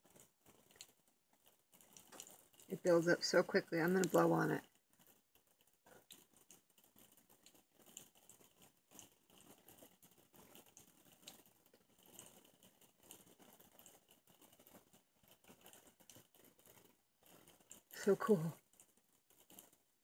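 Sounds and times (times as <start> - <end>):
water pattering and fizzing: 0.0 - 20.0.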